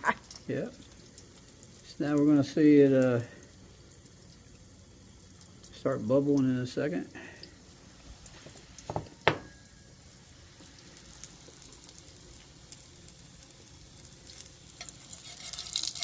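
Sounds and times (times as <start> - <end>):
batter sizzling in a skillet: 0.0 - 16.0.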